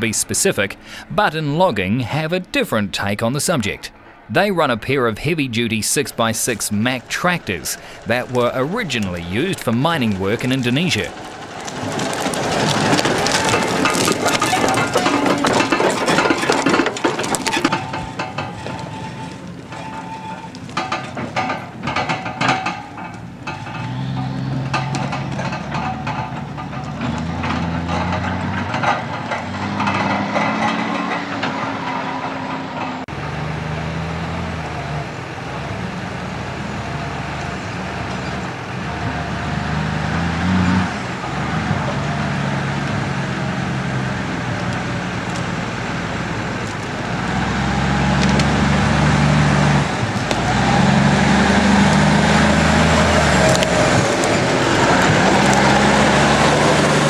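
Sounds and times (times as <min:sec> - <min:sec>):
diesel truck engine under load: 0:00.0 - 0:57.0
log trailer rattling and knocking: 0:04.8 - 0:57.0.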